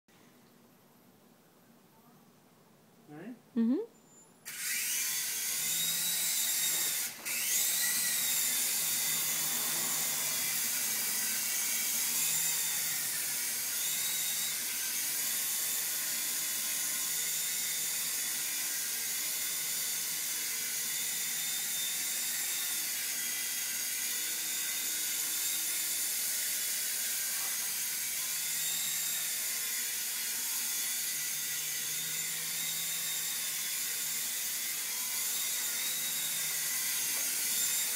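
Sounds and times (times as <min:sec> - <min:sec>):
toy helicopter rotors whining: 0:04.4 - 0:37.9.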